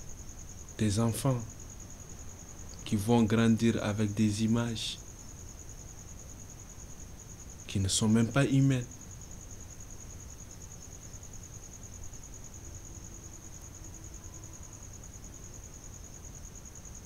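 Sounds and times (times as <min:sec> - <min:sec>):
cricket trilling: 0:00.0 - 0:17.0
faint low background rumble: 0:00.0 - 0:17.0.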